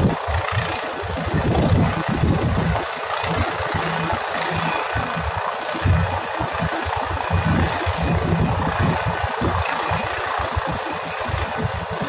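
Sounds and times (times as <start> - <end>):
helicopter rotor and turbine engine: 0.0 - 12.0.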